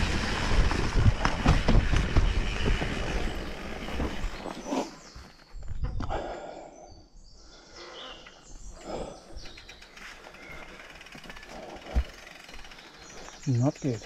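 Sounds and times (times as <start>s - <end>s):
birds chirping: 1.5s - 14.0s.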